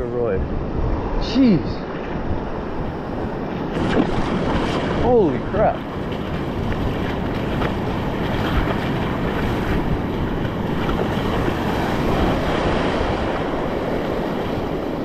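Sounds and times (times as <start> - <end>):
surf washing over reef: 0.0 - 15.0
wind buffeting microphone: 0.0 - 15.0.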